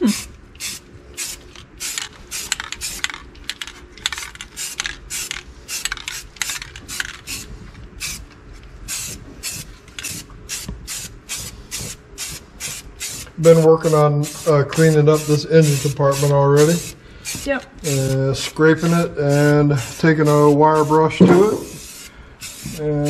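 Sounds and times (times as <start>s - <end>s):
aerosol spray can hissing: 0.0s - 3.1s, 4.6s - 8.2s, 8.9s - 23.0s.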